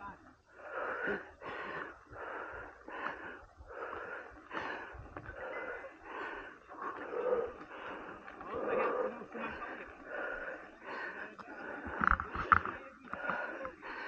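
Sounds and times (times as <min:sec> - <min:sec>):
person breathing hard: 0:00.4 - 0:14.0.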